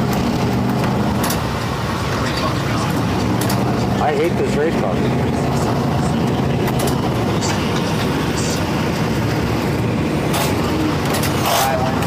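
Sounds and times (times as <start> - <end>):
racing engine running: 0.0 - 12.0.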